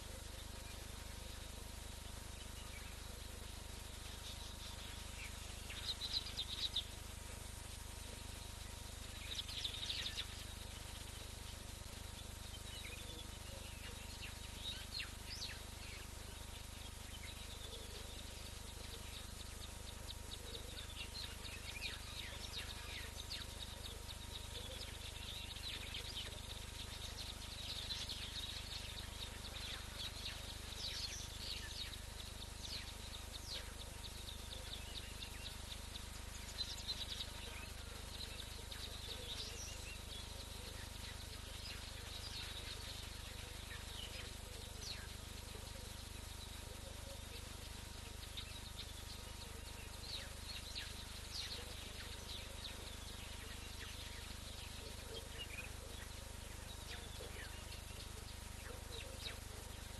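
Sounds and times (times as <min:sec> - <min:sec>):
low hum and hiss: 0:00.0 - 0:59.9
small birds chirping: 0:00.0 - 0:59.9.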